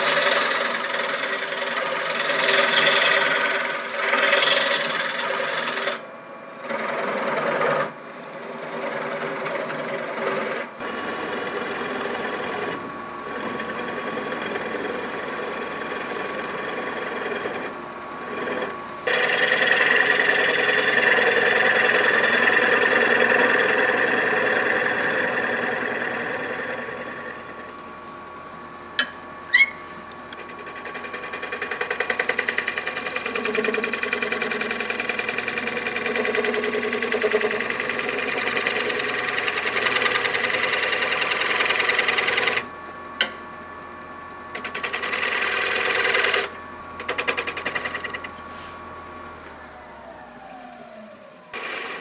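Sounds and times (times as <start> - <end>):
power tool cutting wood: 0.0 - 6.0, 8.6 - 27.7, 30.3 - 42.7, 44.5 - 48.7, 49.7 - 52.0.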